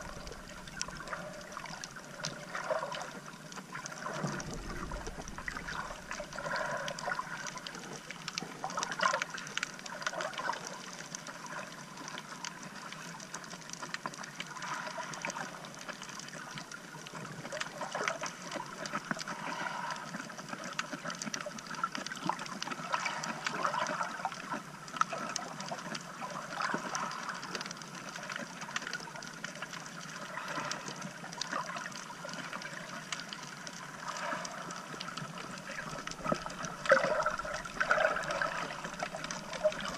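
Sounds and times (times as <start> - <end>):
small underwater clicks: 0.0 - 39.9
underwater gurgling and sloshing: 0.0 - 39.9.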